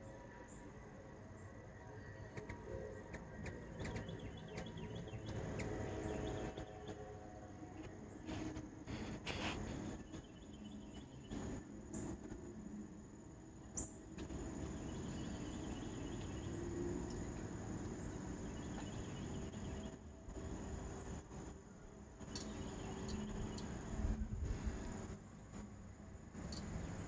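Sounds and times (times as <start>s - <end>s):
insects chirping in trills: 0.0s - 27.0s
steady high whine: 0.0s - 27.0s.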